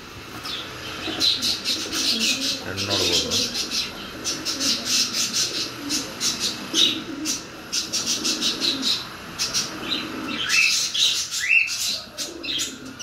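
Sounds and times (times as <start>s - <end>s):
pigeons cooing: 0.4s - 13.0s.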